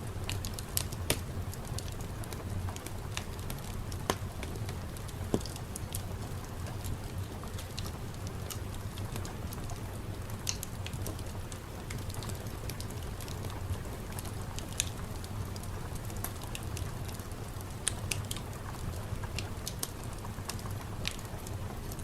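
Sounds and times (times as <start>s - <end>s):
sharp crackles and ticks: 0.2s - 22.0s.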